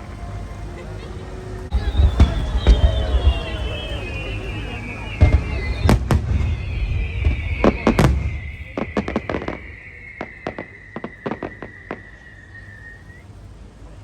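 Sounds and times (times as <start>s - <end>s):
deep firework booms: 1.7s - 13.1s
crackling firework pops: 1.8s - 13.2s.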